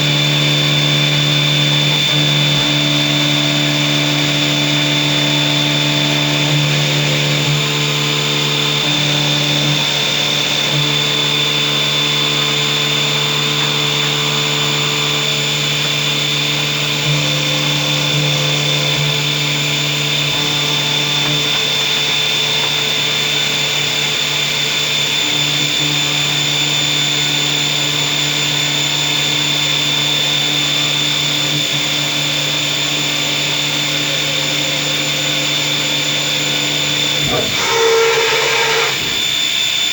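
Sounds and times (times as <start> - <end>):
machine motor hum with whine: 0.0 - 39.9.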